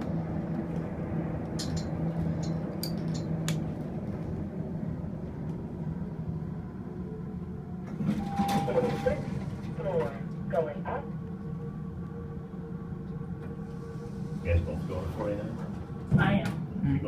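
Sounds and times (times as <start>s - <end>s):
elevator hum and rumble: 0.0s - 17.0s.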